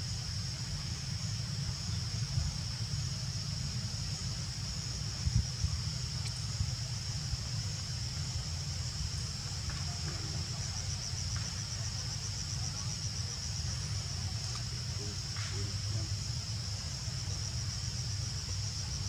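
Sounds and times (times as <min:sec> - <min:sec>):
insects trilling: 0:00.1 - 0:19.0.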